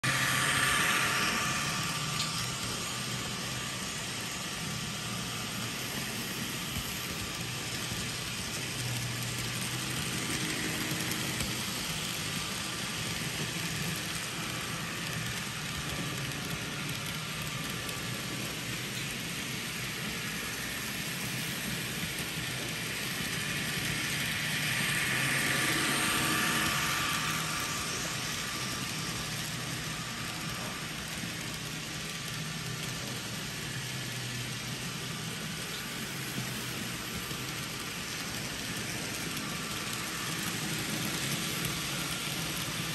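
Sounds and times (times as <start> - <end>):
model trains whirring on track: 0.0 - 42.9.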